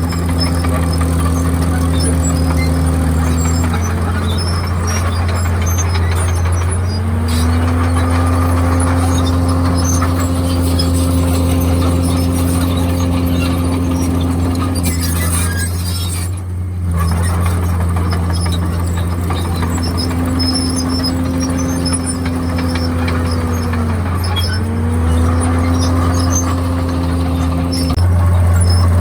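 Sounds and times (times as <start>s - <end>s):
bulldozer diesel drone: 0.0s - 29.0s
high-pitched engine whine: 0.0s - 29.0s.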